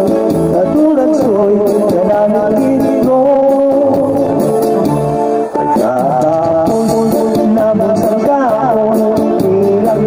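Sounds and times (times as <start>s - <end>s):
man singing into a microphone: 0.0s - 4.8s, 5.5s - 10.0s
backing music track: 0.0s - 10.0s.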